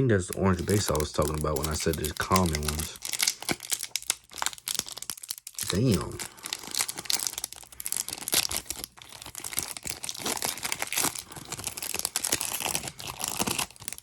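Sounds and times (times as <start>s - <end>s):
wrapper tearing and crinkling: 0.2s - 14.0s.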